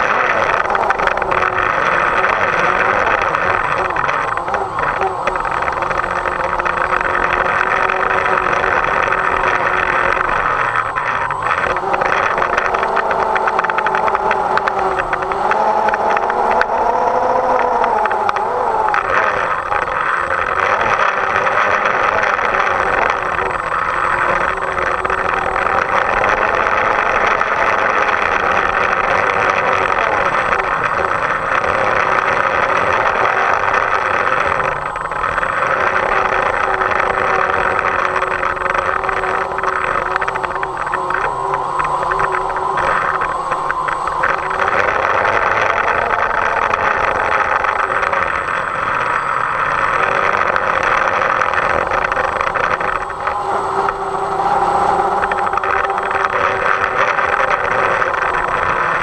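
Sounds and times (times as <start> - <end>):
drone motors buzzing whine: 0.0 - 59.0.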